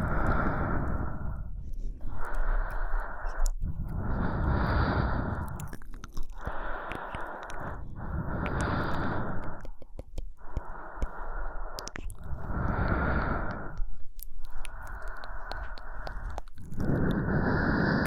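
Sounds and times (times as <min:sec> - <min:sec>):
woman breathing slowly: 0:00.0 - 0:18.0.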